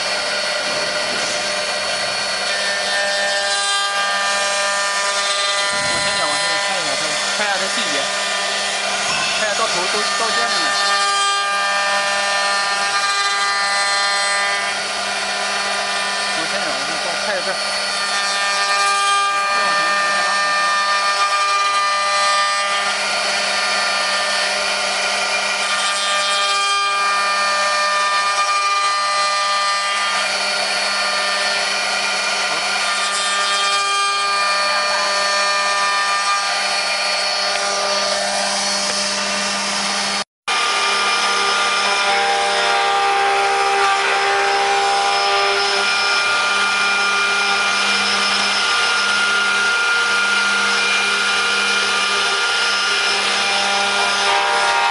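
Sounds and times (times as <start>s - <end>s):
cutters rasping through wood: 0.0s - 54.9s
router motor whine: 0.0s - 54.9s.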